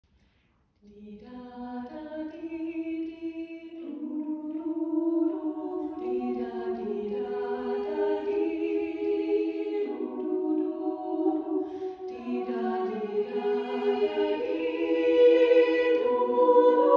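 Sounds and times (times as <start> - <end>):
female choir singing a cappella: 0.9 - 16.9.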